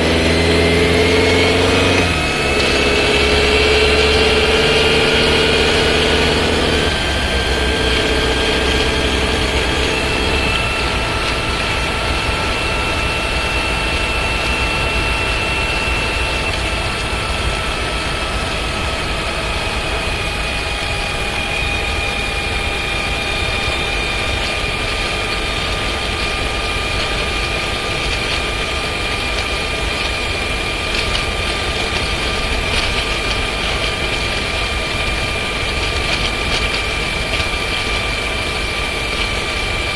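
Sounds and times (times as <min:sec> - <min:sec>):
car engine and road drone: 0:00.0 - 0:39.9
steady whine tones: 0:00.0 - 0:39.9
gearbox rattling: 0:00.1 - 0:39.9.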